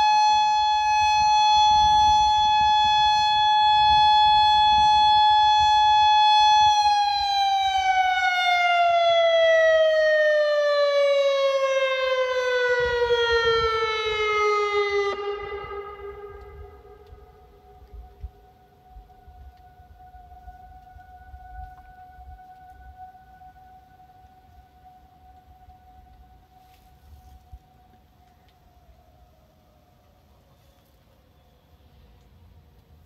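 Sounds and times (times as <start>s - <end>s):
electronic siren alert tone: 0.0s - 30.6s.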